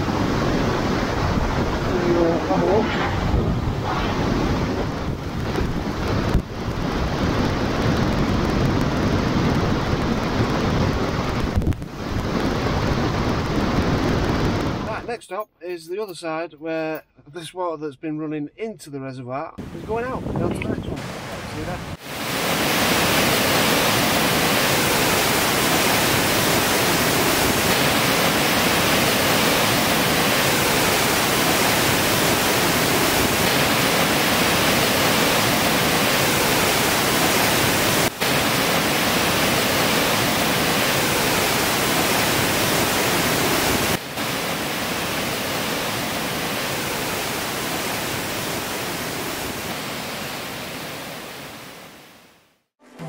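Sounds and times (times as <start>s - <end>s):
rushing white water: 0.0s - 15.1s, 19.6s - 52.3s.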